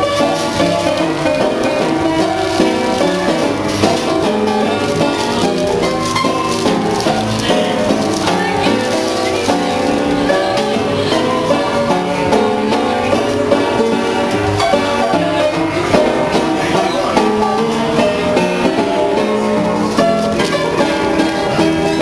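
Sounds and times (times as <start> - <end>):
coin-operated piano playing fast notes: 0.0 - 22.0.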